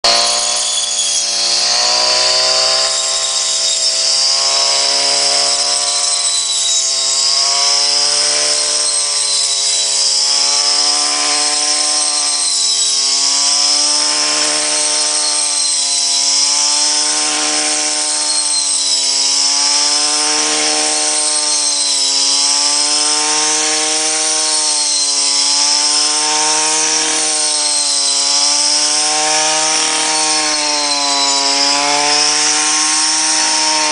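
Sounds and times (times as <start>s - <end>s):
small two-stroke engine running: 0.0s - 33.9s.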